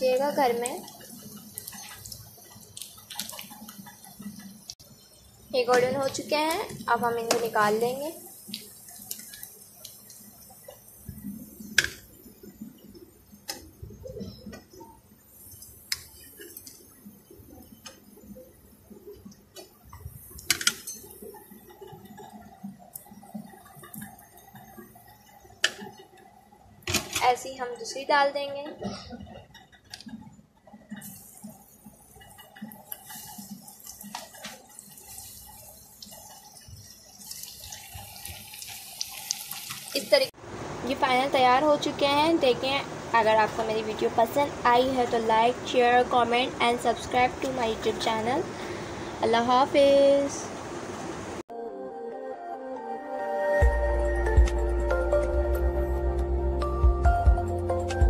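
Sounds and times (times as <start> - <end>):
sharp oil crackles: 0.0 - 14.0, 15.2 - 26.4, 29.5 - 51.4
food deep-frying in hot oil: 0.0 - 28.7, 29.4 - 51.5.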